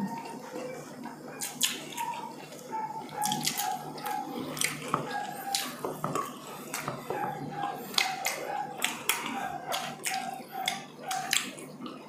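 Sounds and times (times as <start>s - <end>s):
chewing and lip-smacking: 0.1s - 12.0s.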